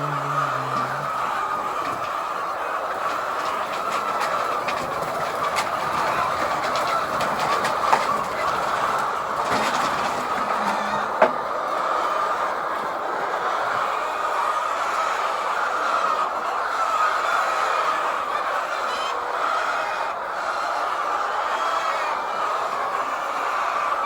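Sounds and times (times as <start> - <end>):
flock of hens clucking: 0.0 - 24.0.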